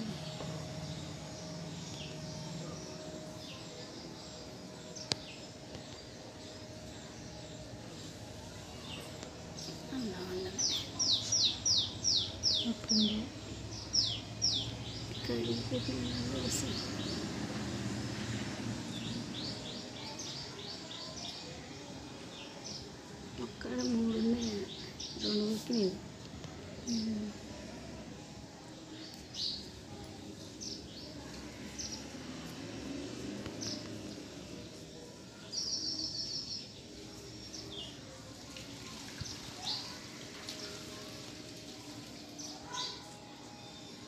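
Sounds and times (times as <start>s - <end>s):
low background murmur: 0.0s - 44.0s
steady background hiss: 0.0s - 44.0s.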